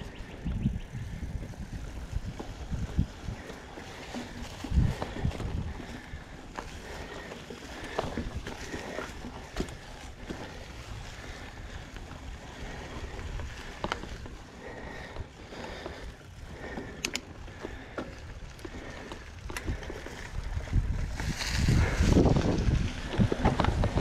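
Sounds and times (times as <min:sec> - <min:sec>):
bike rattles and clicks: 0:00.0 - 0:24.0
bike tyres on dirt: 0:00.0 - 0:24.0
wind buffeting microphone: 0:00.0 - 0:24.0.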